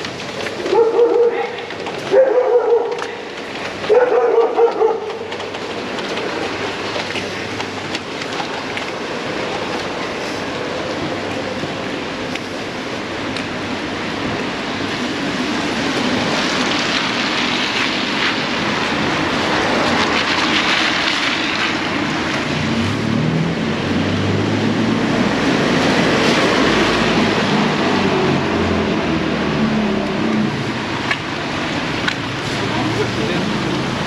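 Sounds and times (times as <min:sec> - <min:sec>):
heavy rain: 0:00.0 - 0:34.0.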